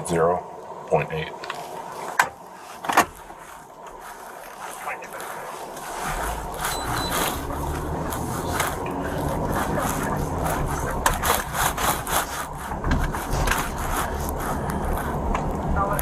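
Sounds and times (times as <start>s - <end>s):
scraping and rubbing noises: 1.5s - 16.0s
car road rumble inside cabin: 3.2s - 16.0s.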